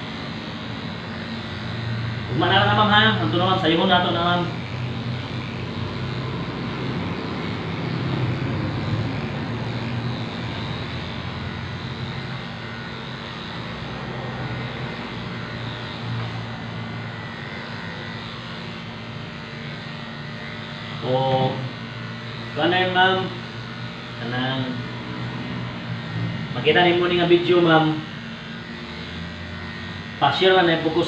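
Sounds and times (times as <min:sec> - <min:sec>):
electric pet clipper humming: 0:00.0 - 0:31.0.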